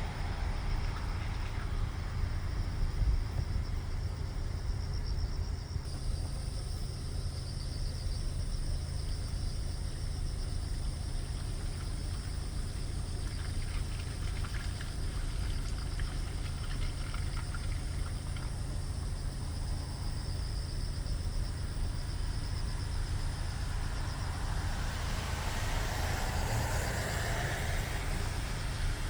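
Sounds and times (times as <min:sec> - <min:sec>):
insects trilling: 0:00.0 - 0:29.0
low steady rumble: 0:00.0 - 0:29.0.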